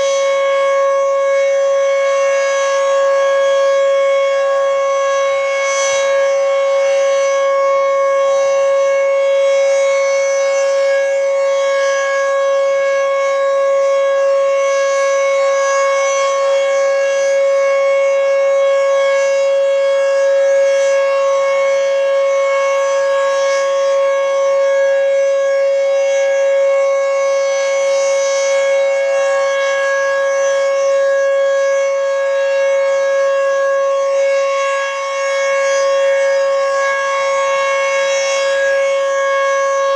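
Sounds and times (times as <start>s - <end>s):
electromechanical siren high tone: 0.0s - 39.9s.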